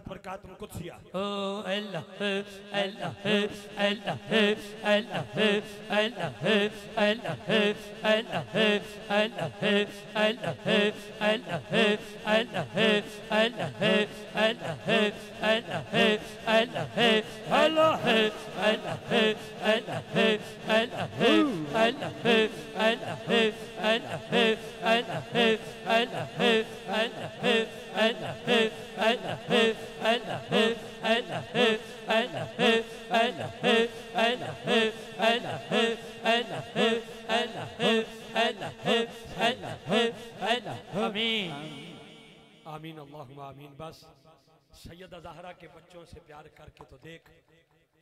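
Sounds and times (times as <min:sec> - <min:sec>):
rhythmic devotional chanting: 0:00.0 - 0:47.6.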